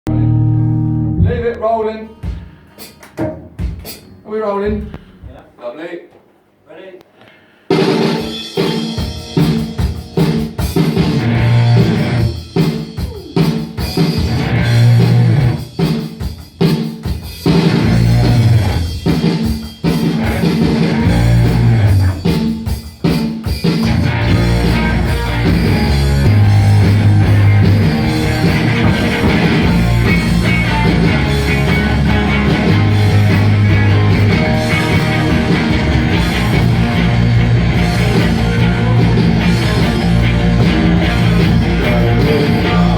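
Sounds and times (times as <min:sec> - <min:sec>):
loud rock music: 0:07.7 - 0:42.9.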